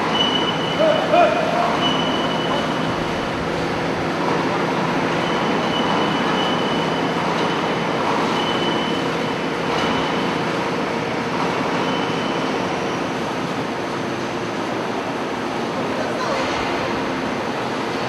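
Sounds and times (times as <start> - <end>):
baling machine clatter and hum: 0.0 - 18.0.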